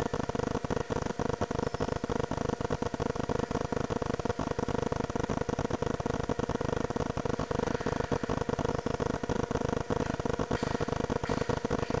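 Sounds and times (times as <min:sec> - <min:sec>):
pulsing buzzing hum: 0:00.0 - 0:12.0.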